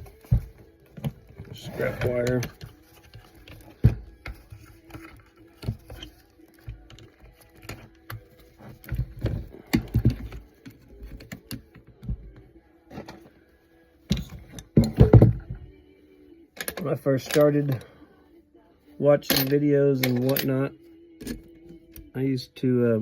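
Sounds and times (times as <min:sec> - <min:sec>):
scrap metal clinking and knocking: 0:00.0 - 0:13.3, 0:14.1 - 0:15.7, 0:16.6 - 0:17.9, 0:19.2 - 0:22.1.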